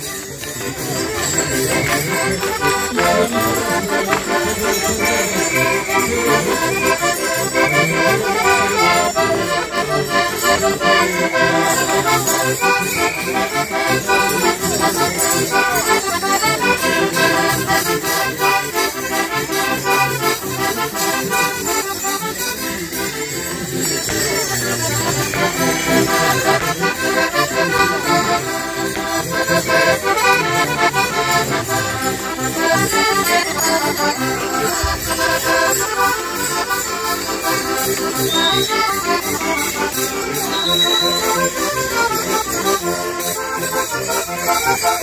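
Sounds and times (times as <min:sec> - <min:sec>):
accordion playing folk music: 0:00.0 - 0:45.0
jingling and rattling: 0:00.0 - 0:45.0.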